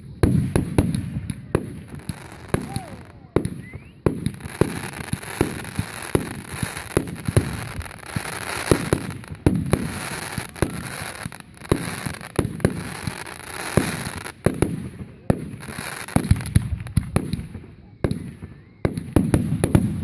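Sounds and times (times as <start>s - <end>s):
fireworks banging: 0.0s - 20.0s
fireworks crackling: 0.0s - 20.0s.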